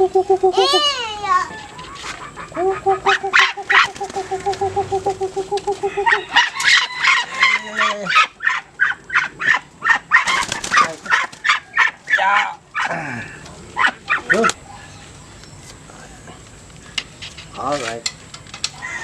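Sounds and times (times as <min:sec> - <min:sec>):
rapidly pulsing poultry call: 0:00.0 - 0:15.1, 0:18.7 - 0:19.0
poultry clucking and squawking: 0:00.0 - 0:15.2, 0:18.7 - 0:19.0.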